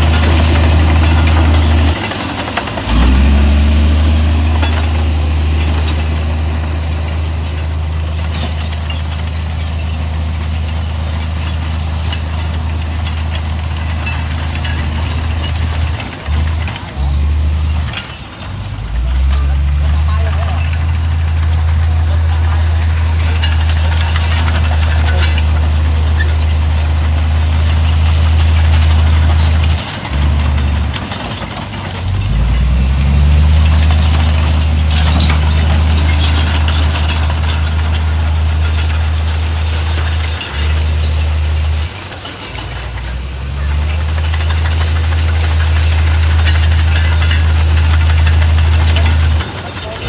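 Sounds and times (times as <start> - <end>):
heavy diesel engine rumbling: 0.0 - 50.0.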